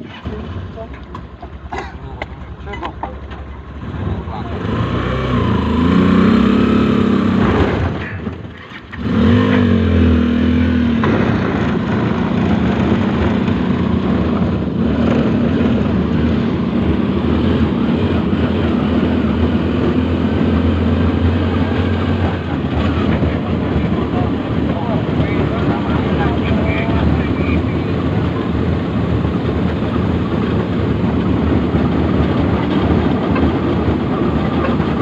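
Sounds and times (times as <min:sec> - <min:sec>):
motorcycle engine running under load: 0:00.0 - 0:35.0.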